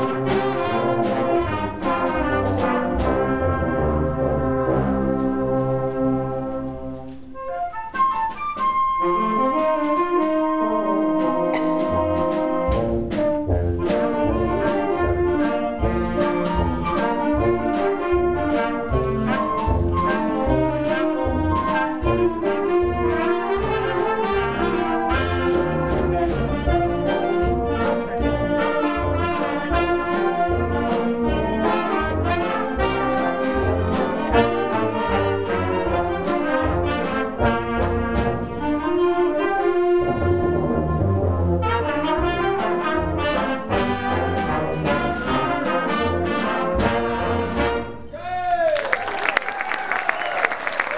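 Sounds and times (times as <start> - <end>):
concert band playing ragtime: 0.0 - 48.2, 48.9 - 50.9.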